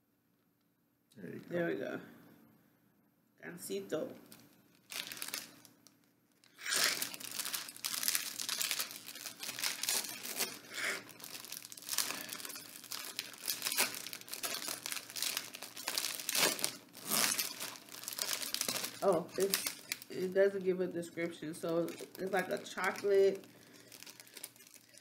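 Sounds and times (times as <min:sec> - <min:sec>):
plastic wrapper crinkling and tearing: 0:04.2 - 0:25.0.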